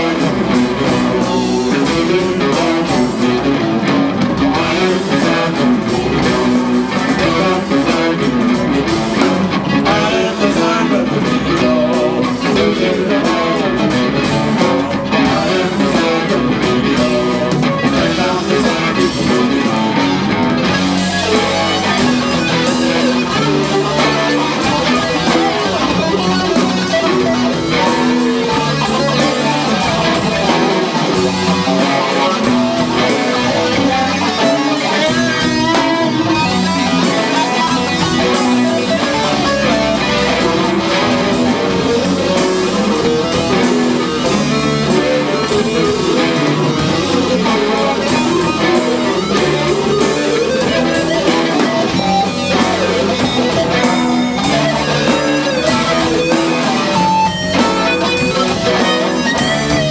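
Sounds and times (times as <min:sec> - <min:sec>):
bass guitar: 0:00.0 - 0:59.9
drum kit: 0:00.0 - 0:59.9
electric guitars: 0:00.0 - 0:59.9.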